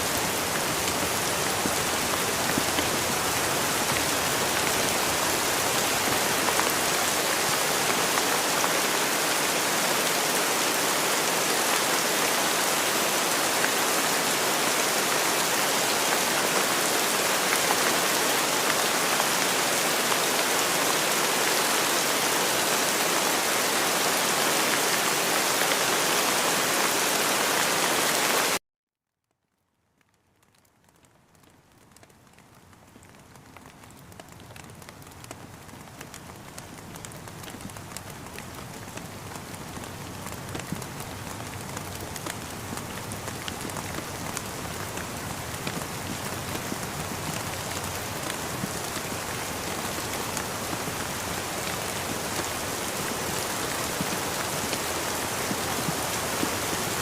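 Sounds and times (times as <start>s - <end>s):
rain falling: 0.0s - 28.6s, 29.4s - 57.0s.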